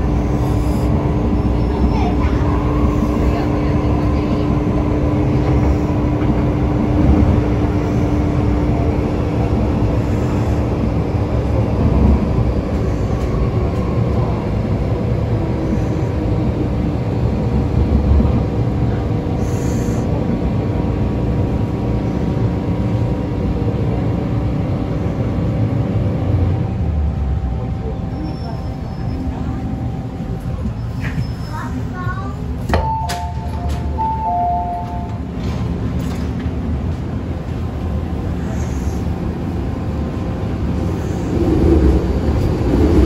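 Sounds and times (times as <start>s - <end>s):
train wheels rumbling: 0.0s - 43.0s.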